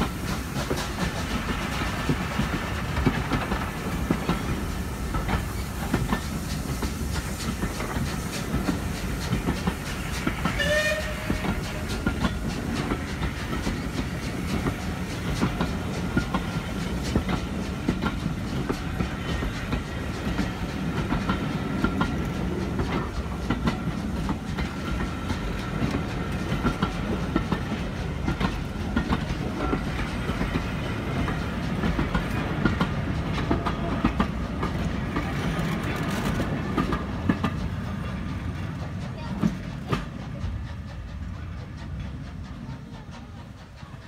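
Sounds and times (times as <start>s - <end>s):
train wheels clickety-clack: 0.0s - 44.0s.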